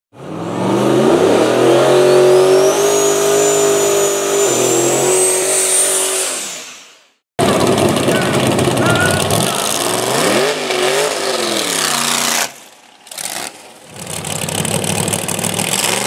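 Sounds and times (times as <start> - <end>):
car engine revving: 0.2 - 6.7, 7.4 - 16.0.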